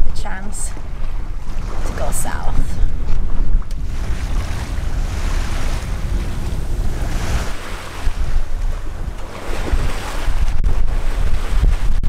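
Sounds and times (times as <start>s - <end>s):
water rushing along boat hull: 0.0s - 12.0s
wind buffeting microphone: 0.0s - 12.0s.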